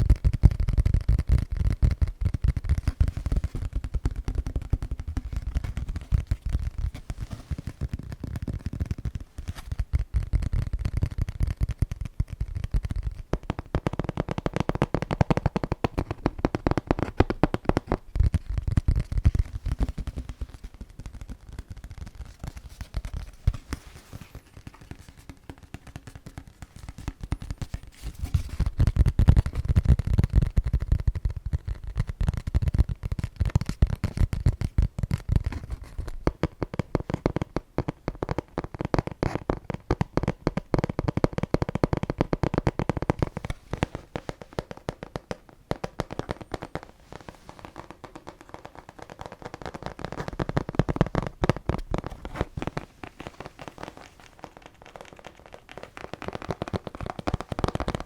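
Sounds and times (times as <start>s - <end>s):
rapid tapping: 0.0s - 58.0s.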